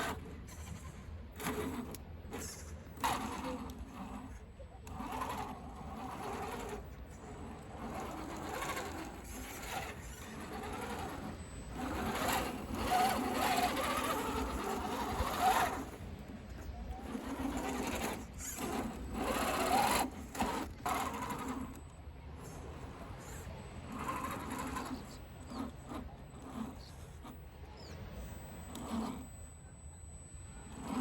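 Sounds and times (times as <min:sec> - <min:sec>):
toy truck electric motor whirring: 0:00.0 - 0:31.0.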